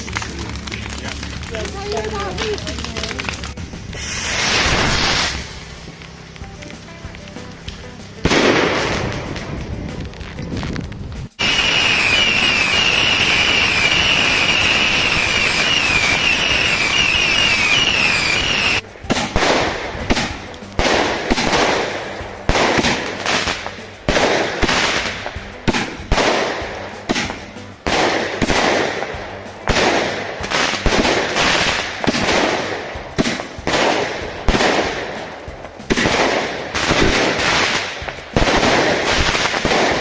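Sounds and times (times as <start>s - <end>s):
firework bangs: 0.0s - 40.0s.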